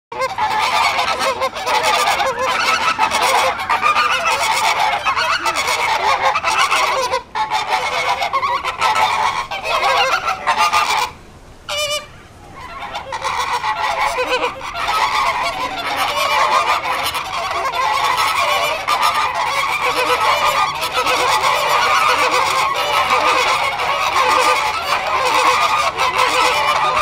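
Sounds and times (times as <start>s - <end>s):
flamingos honking: 0.1s - 27.0s.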